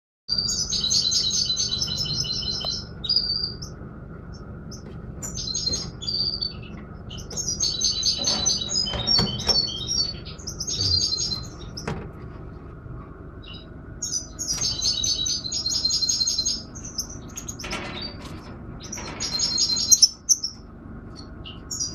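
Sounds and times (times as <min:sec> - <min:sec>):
finch twittering song: 0:00.3 - 0:11.9, 0:13.4 - 0:18.2, 0:18.8 - 0:21.9
low steady hum: 0:00.3 - 0:21.9.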